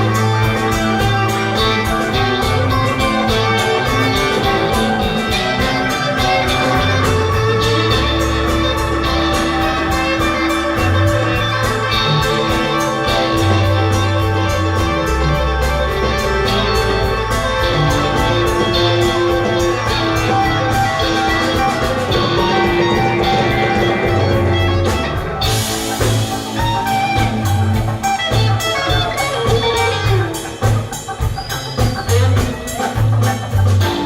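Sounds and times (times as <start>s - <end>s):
live blues band playing: 0.0s - 34.0s.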